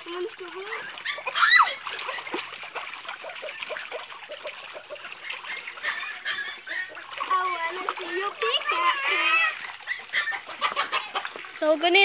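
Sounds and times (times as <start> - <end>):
water splashing in paddling pool: 0.0 - 12.0.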